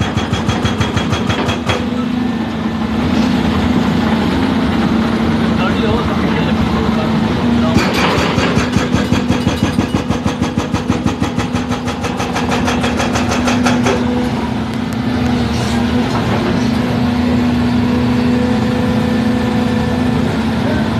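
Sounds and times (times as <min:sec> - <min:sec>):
diesel engine running: 0:00.0 - 0:20.9
hydraulic breaker pounding road: 0:00.0 - 0:20.9.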